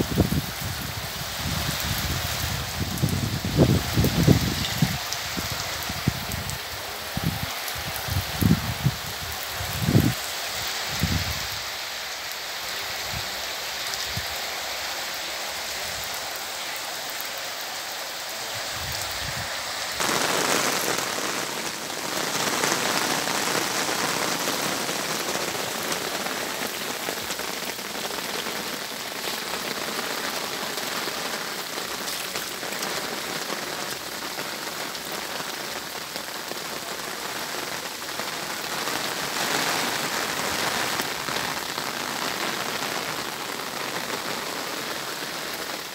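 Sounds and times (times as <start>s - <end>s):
rain falling on vegetation: 0.0s - 45.9s.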